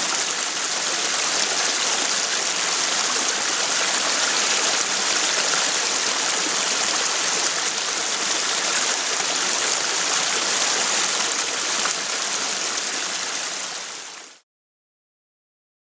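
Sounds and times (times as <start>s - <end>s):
stream running over rocks: 0.0s - 14.4s.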